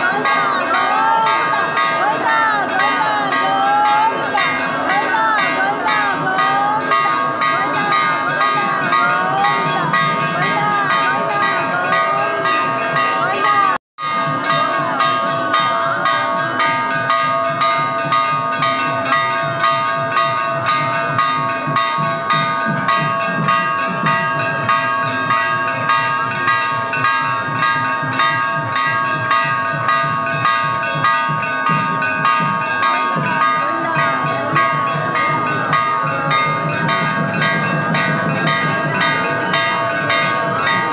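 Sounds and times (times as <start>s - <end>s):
large bell ringing fast: 0.0s - 40.9s.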